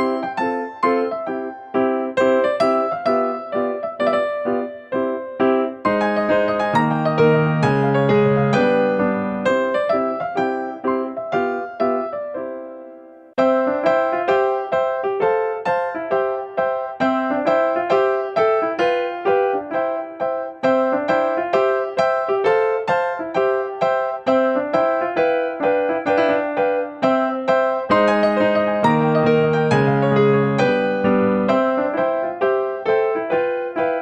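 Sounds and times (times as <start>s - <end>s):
light keyboard tune: 0.0s - 34.0s.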